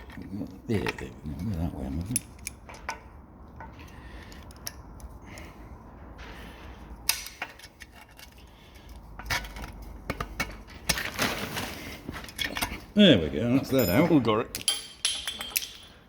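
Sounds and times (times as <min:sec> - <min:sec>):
metal tools clinking on engine: 0:00.0 - 0:05.1, 0:07.1 - 0:11.2, 0:12.1 - 0:16.0.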